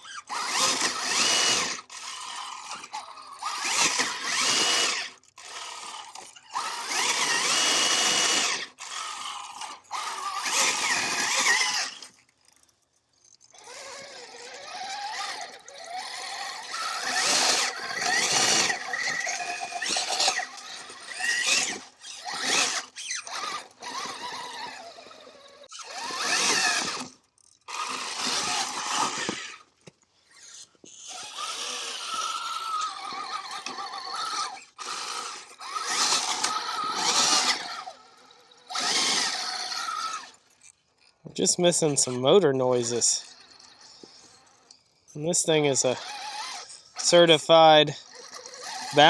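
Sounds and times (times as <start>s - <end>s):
electric motor whining: 0.0s - 12.6s, 13.4s - 29.7s, 30.3s - 40.5s, 41.3s - 49.0s.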